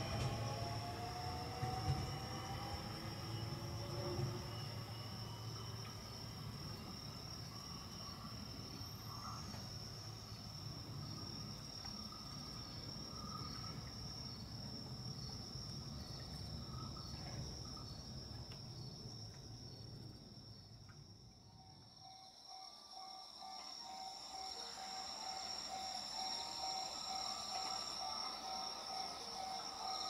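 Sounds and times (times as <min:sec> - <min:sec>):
crickets trilling: 0:00.0 - 0:30.0
pulsed cricket chirp: 0:00.0 - 0:30.0.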